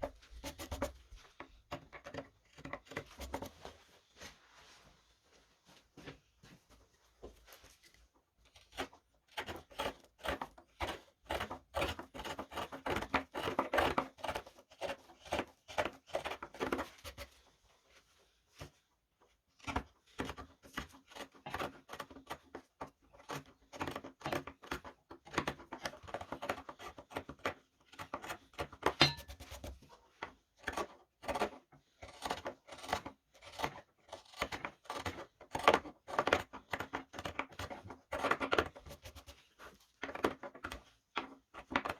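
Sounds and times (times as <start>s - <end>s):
chisel scraping wood: 0.0s - 3.7s, 7.8s - 17.3s, 20.0s - 41.9s.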